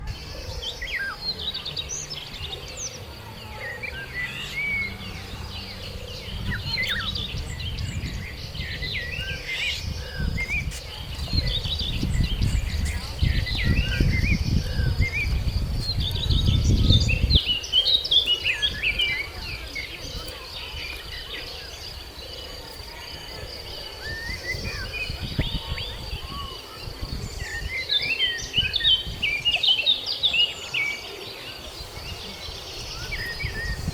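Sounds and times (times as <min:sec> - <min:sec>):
birds chirping and calling: 0:00.0 - 0:33.9.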